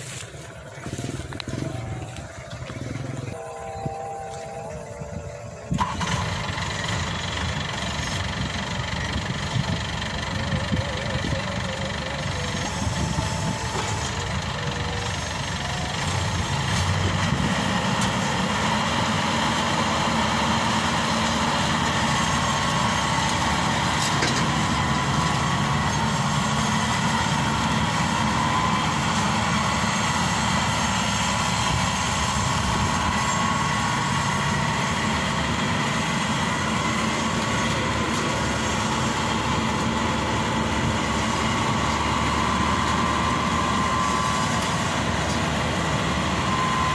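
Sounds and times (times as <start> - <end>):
combine harvester diesel engine: 0.0 - 46.9.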